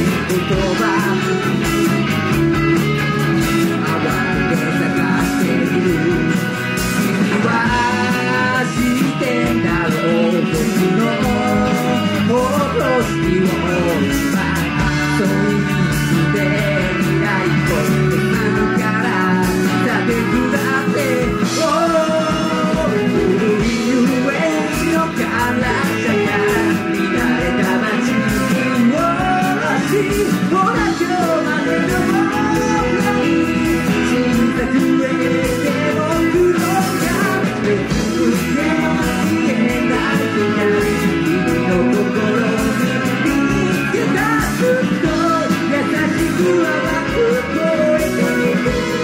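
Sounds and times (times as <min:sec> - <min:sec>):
electric guitars: 0:00.0 - 0:49.0
keyboard: 0:00.0 - 0:49.0
live rock band playing: 0:00.0 - 0:49.0
male lead vocal: 0:00.0 - 0:49.0
person singing: 0:00.0 - 0:49.0
steady drum beat: 0:00.0 - 0:49.0.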